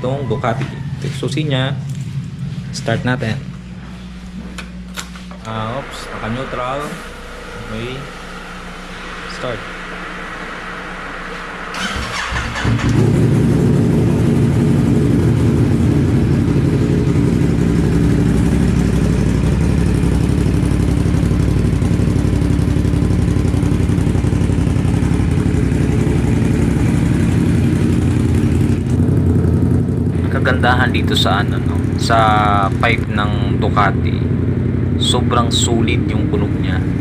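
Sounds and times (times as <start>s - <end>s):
motorcycle engine starting and idling: 0.0s - 37.0s.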